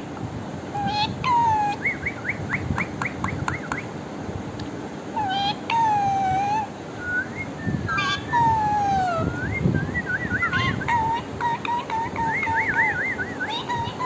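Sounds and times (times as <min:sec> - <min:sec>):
parrot rising chirps: 0:00.8 - 0:03.9, 0:05.2 - 0:14.0
parrot whistled calls: 0:00.8 - 0:03.9, 0:05.2 - 0:14.0.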